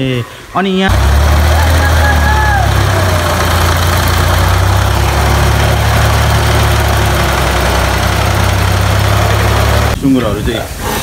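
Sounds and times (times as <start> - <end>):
diesel tractor engine running: 0.9 - 10.0
water splashing around wheels: 0.9 - 10.0.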